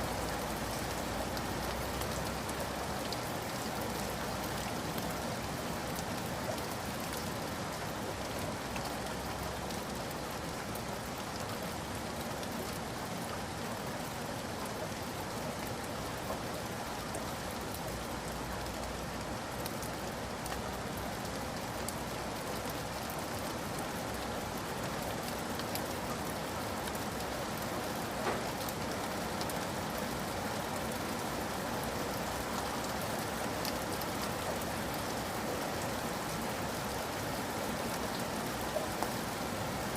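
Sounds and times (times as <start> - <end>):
raindrops pattering on a surface: 0.0 - 39.9
steady rainfall hiss: 0.0 - 39.9.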